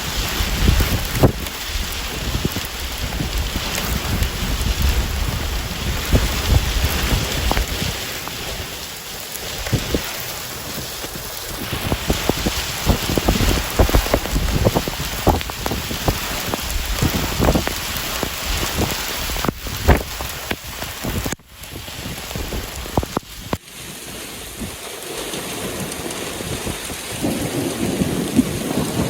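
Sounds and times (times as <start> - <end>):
heavy rain: 0.0 - 29.0
sharp rain hits: 0.0 - 29.0
strong wind gusts: 0.0 - 29.0.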